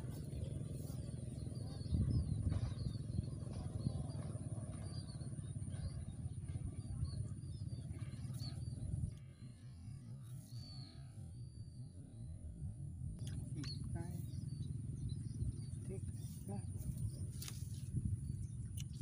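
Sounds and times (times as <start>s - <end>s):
wind rumble on microphone: 0.0s - 9.5s, 10.1s - 19.0s
small birds chirping: 0.0s - 19.0s.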